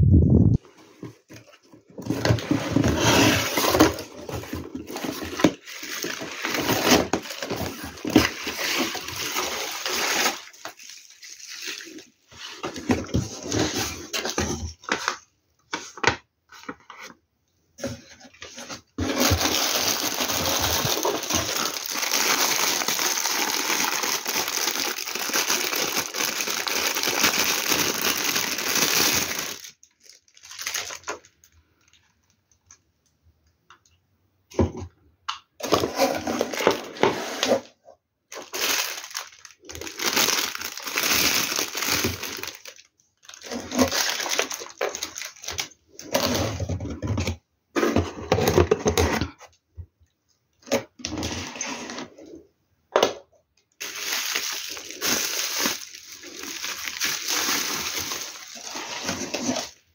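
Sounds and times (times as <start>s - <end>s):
packaging rustling and crinkling: 0.6s - 17.2s, 17.8s - 32.8s, 35.6s - 37.7s, 38.3s - 49.1s, 53.8s - 59.9s.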